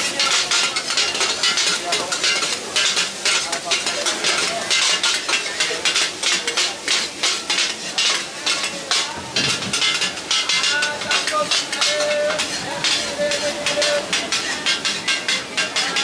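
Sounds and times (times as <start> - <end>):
metal spatula scraping wok: 0.0 - 16.0
noodles sizzling in wok: 0.0 - 16.0.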